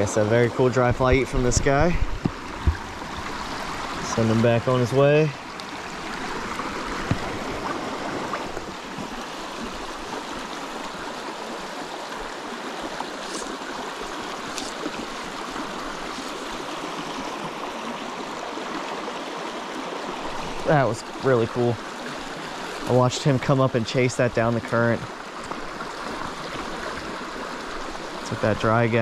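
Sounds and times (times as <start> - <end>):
creek flowing over rocks: 0.0 - 29.0.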